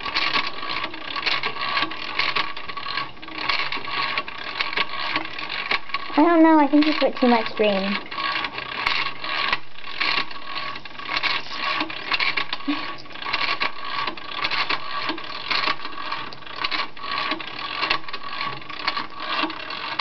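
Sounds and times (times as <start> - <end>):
motor hum: 0.0 - 20.0
rattle of clicks and knocks: 0.0 - 20.0.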